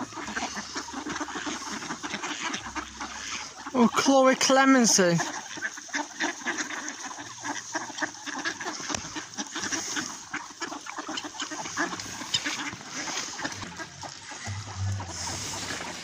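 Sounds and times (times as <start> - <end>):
ducks quacking and chattering: 0.0 - 16.0.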